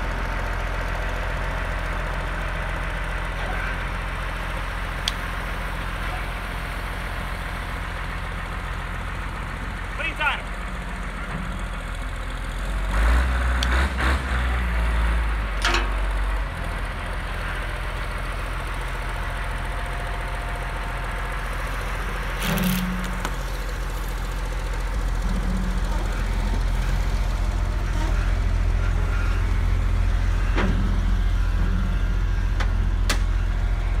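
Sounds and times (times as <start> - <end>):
wheel loader diesel engine: 0.0 - 34.0.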